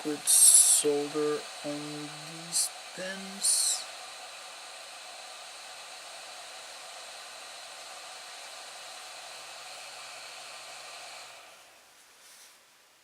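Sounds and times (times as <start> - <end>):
hot air rework station hissing: 0.0 - 12.6.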